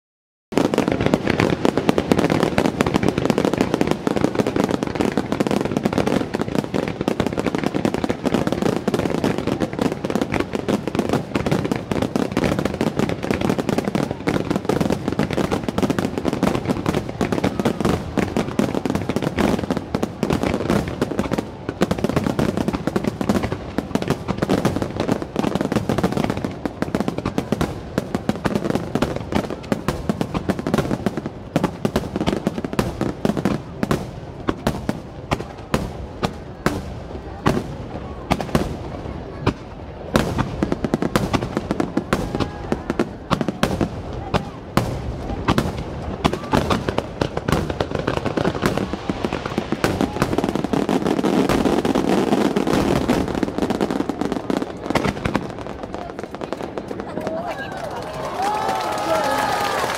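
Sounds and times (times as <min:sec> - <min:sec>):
fireworks bursting: 0:00.5 - 0:59.9.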